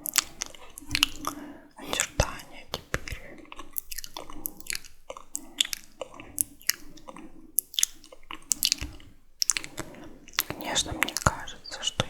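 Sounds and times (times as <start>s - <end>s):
tongue clicks: 0.0s - 12.0s
wet lip smacks: 0.0s - 12.0s
soft breathy noise: 0.1s - 12.0s.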